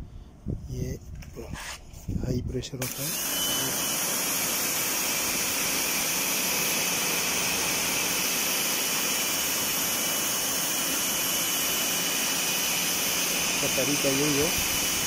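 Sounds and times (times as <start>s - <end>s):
pressure washer spraying metal mesh: 2.8s - 15.0s.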